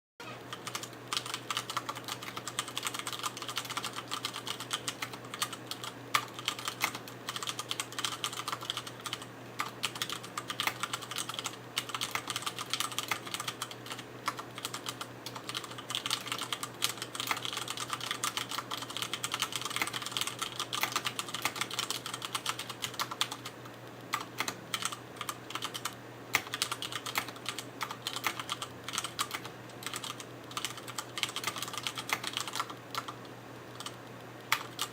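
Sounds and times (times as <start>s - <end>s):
fast typing on mechanical keyboard: 0.5s - 34.9s.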